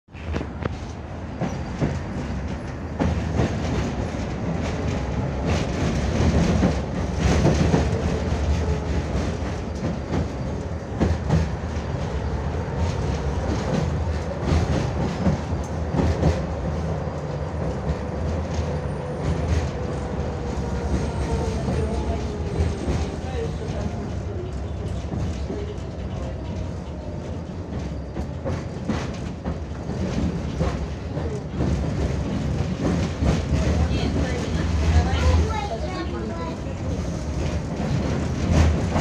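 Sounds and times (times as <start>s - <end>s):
tram wheels running on rails: 0.2s - 39.0s.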